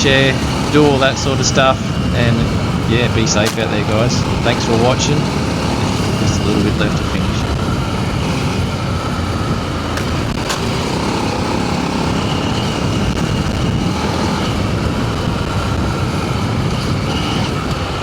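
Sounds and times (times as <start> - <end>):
motorcycle engine running: 0.0 - 18.0
wind: 0.0 - 18.0.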